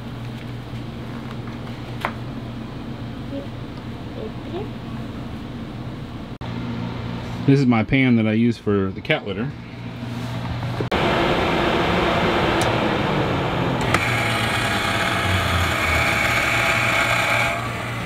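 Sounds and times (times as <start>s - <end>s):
vent fan whirring with whine: 0.0s - 18.0s.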